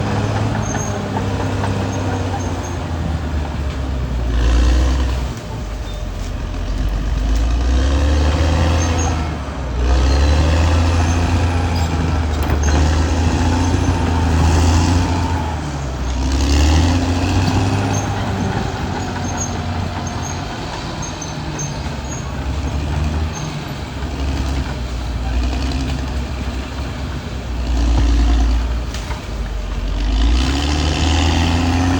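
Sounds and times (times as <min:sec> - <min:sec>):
bulldozer diesel engine under load: 0:00.0 - 0:31.9.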